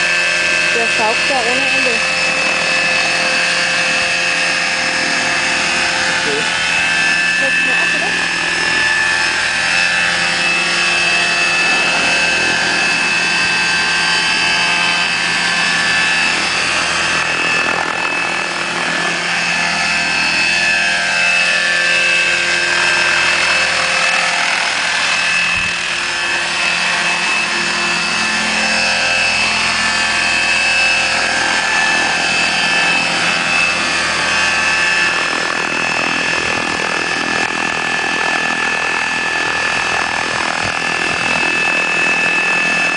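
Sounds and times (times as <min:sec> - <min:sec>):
electric motor whine: 0:00.0 - 0:42.9
rotor blades rushing: 0:00.0 - 0:42.9.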